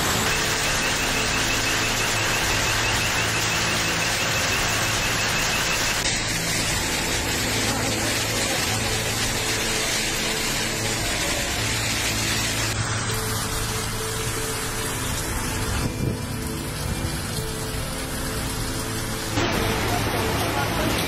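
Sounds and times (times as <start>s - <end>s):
floodwater rushing: 0.0s - 21.0s
heavy rain: 0.0s - 21.0s.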